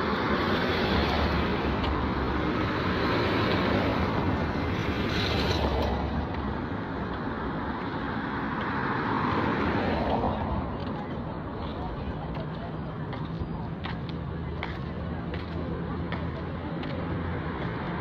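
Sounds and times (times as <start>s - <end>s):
steady traffic noise: 0.0s - 18.0s.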